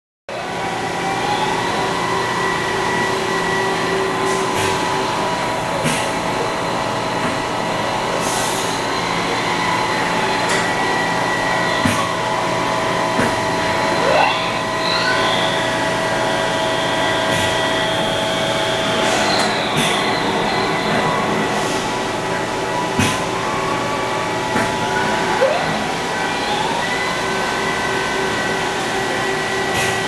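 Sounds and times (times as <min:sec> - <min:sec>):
lathe spindle whine: 0:00.5 - 0:30.0.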